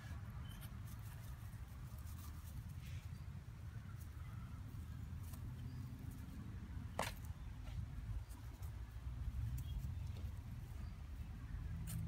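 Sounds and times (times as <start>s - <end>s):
kittens rustling in grass: 0.0s - 12.0s.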